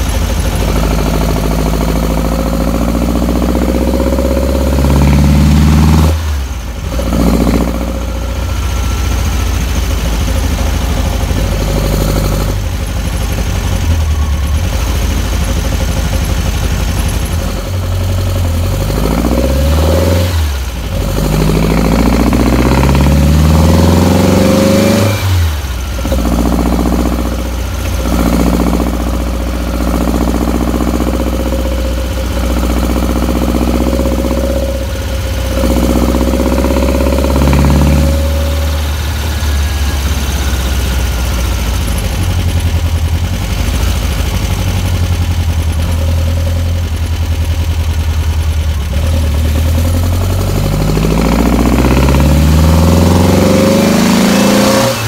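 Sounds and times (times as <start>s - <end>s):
car engine running hard: 0.0s - 55.0s.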